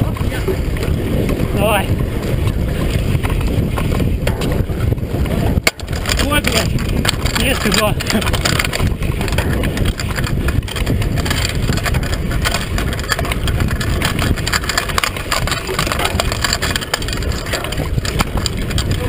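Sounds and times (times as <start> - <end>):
mountain bike rattling over dirt track: 0.0 - 19.0
tyre rushing noise: 0.0 - 19.0.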